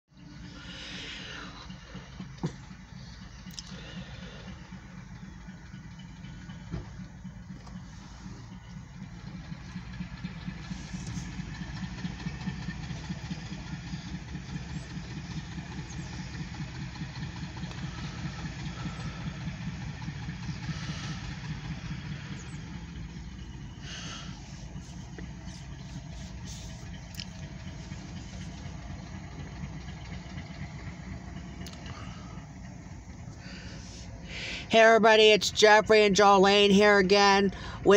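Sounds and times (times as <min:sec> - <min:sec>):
muffled diesel locomotive rumbling: 0:00.1 - 0:37.9.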